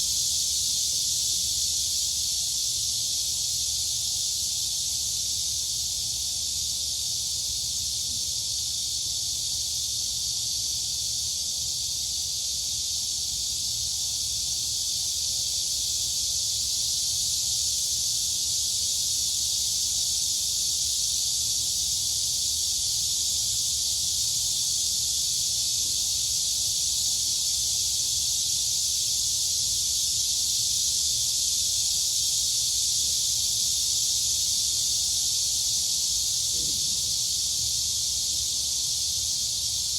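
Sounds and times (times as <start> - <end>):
crickets and cicadas chirring: 0.0 - 39.9.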